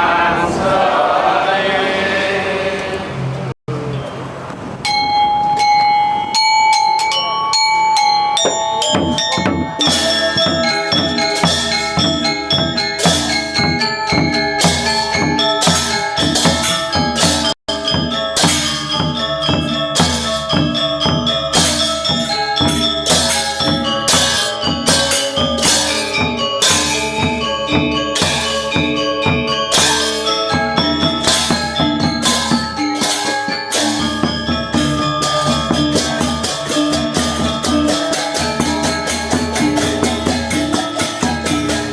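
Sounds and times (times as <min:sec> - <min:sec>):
gamelan music: 0:03.7 - 0:41.9
metallophones and gongs ringing: 0:04.8 - 0:41.9
cymbal strokes: 0:08.0 - 0:41.9.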